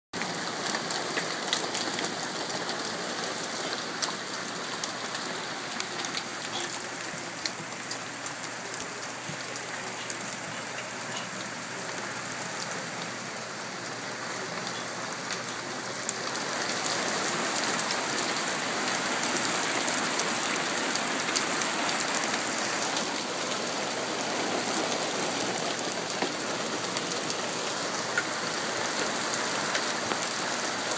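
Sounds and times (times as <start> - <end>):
hail pattering: 0.2 - 30.9.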